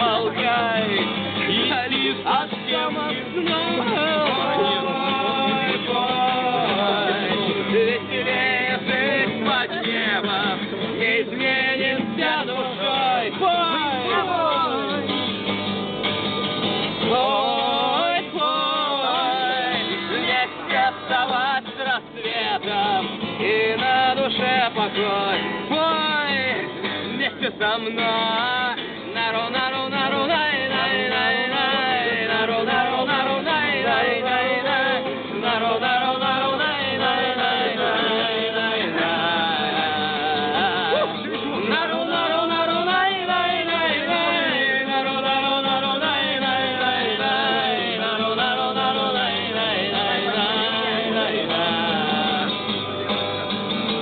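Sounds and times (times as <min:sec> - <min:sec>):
group singing together: 0:00.0 - 0:15.0, 0:16.8 - 0:52.8
acoustic guitar: 0:00.0 - 0:54.0.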